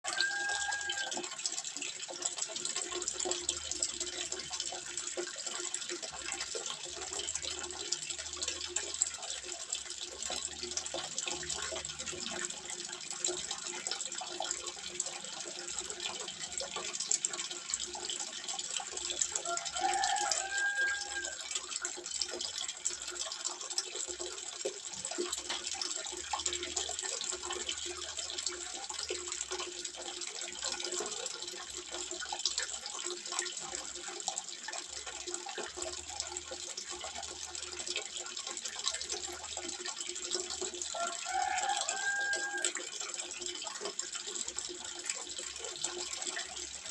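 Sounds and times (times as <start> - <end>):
water trickling into a pond: 0.0 - 46.9.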